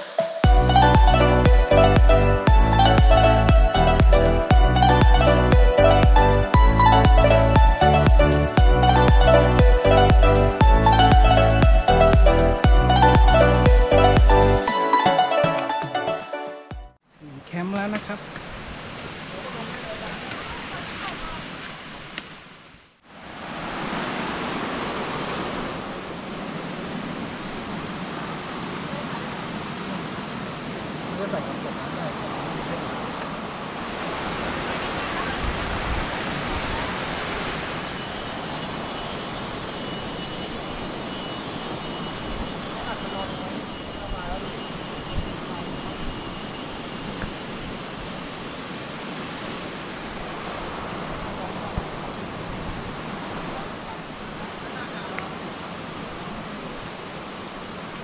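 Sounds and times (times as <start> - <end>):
waterfall rushing: 0.0 - 16.5, 23.0 - 58.0.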